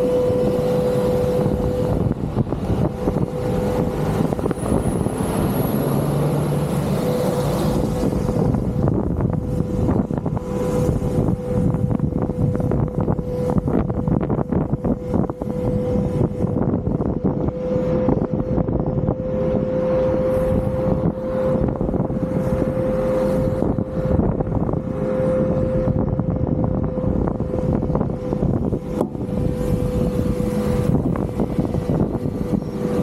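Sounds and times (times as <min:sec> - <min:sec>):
car engine and road rumble: 0:00.0 - 0:33.0
knocks and buffeting: 0:00.0 - 0:33.0
mid-pitched hum: 0:00.0 - 0:33.0.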